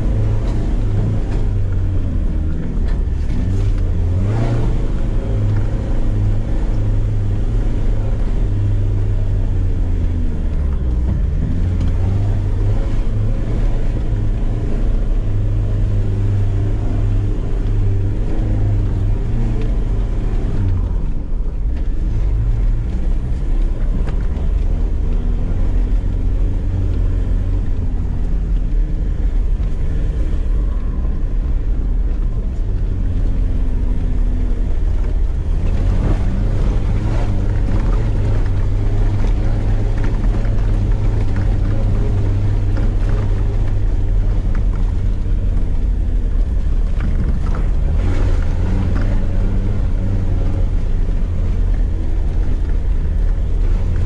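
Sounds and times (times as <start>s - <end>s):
engine low drone: 0.0s - 54.0s
vehicle rattles and knocks: 0.0s - 54.0s.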